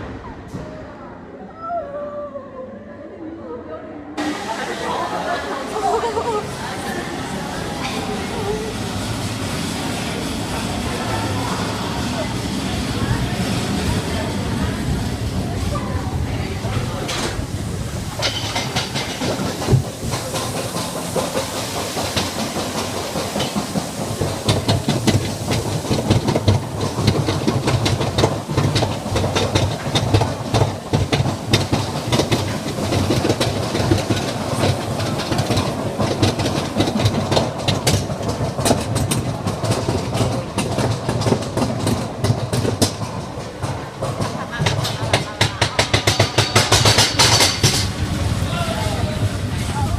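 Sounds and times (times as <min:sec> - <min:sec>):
roller coaster rumble: 0:00.0 - 0:02.3, 0:04.2 - 0:49.9
roller coaster wheels clattering: 0:04.2 - 0:49.9.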